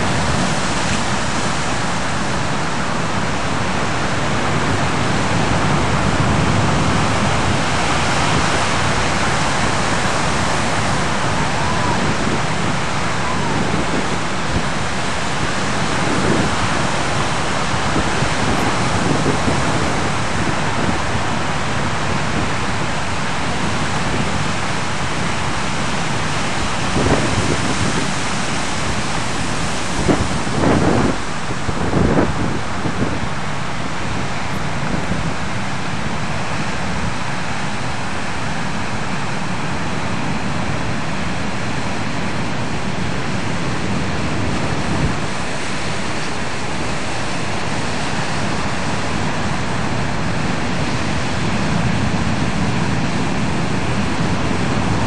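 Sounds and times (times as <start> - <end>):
surf washing onto beach: 0.0 - 55.0
wind gusts on microphone: 0.0 - 55.0.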